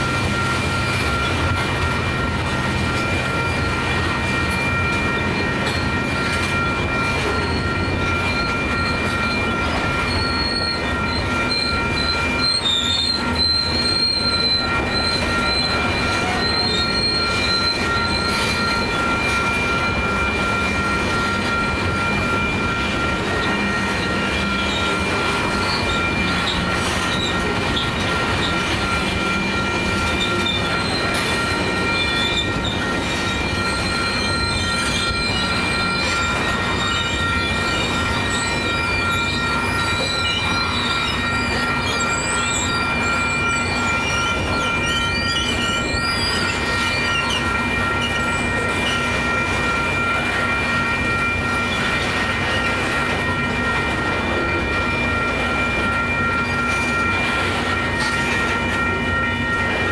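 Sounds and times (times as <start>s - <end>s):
high wavering wheel squeal: 0.0s - 59.9s
train wheels rumbling on rail: 0.0s - 59.9s.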